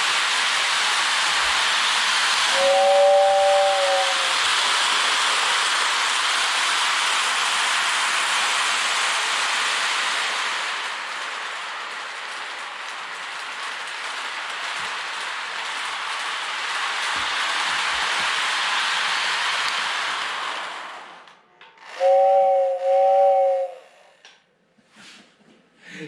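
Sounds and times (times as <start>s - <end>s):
model train running on track: 0.0s - 24.4s.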